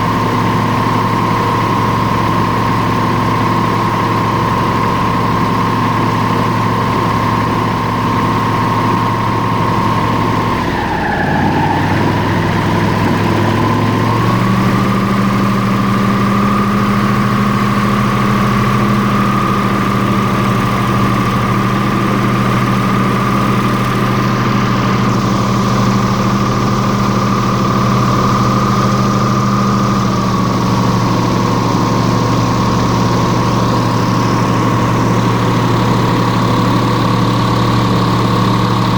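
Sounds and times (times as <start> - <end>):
airboat engine and propeller: 0.0 - 38.9.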